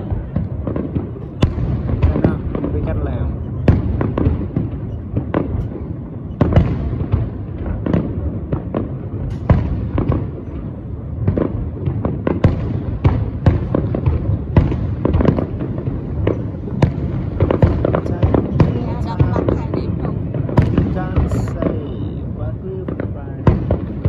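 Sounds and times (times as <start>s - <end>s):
fireworks bangs and crackles: 0.0s - 24.0s
steady low rumble: 0.0s - 24.0s.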